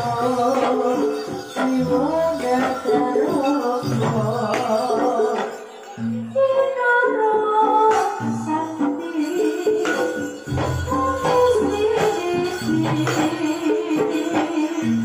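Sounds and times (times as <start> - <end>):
sharp percussion hits: 0.0 - 6.1, 7.9 - 15.0
gamelan music: 0.0 - 15.0
woman singing: 0.0 - 15.0.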